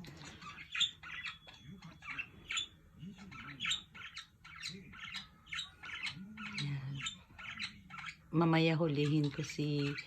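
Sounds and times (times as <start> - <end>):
budgerigars chirping and squawking: 0.0 - 10.0.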